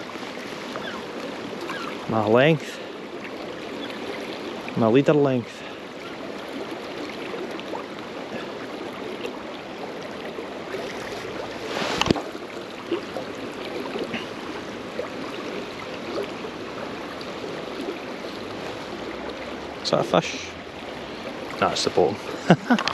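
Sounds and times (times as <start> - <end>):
river water flowing: 0.0 - 22.9.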